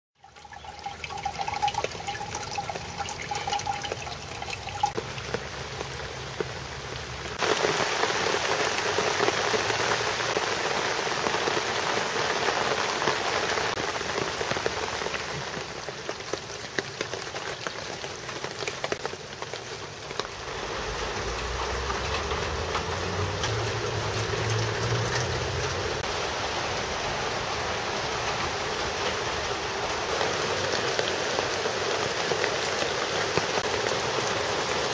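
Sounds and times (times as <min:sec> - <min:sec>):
rain pattering on plastic barrels: 0:00.2 - 0:34.9.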